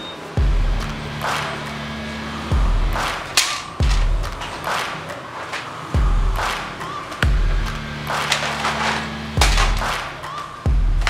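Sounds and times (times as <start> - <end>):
sharp noisy percussion hits: 0.4 - 5.2, 6.0 - 11.0
hip-hop beat: 0.4 - 11.0.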